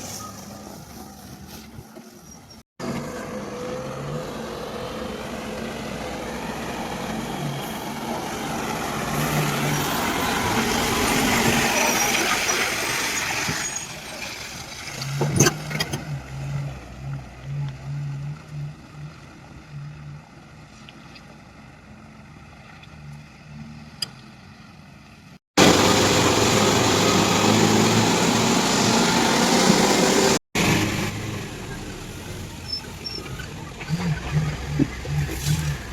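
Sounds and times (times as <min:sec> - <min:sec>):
excavator diesel engine and hydraulics: 0:00.0 - 0:35.9.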